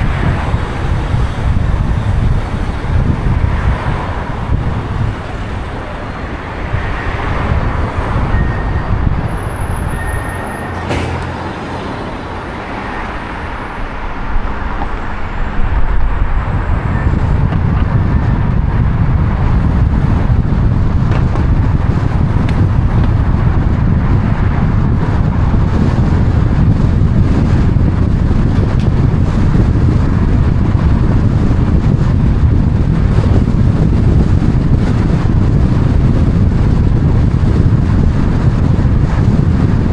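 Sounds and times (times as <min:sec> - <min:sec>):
traffic low rumble: 0:00.0 - 0:39.9
vehicles passing: 0:00.0 - 0:39.9.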